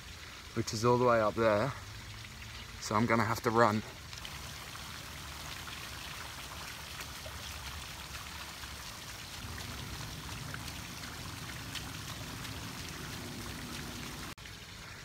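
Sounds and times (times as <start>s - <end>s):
rushing water-like noise: 0.0s - 15.0s.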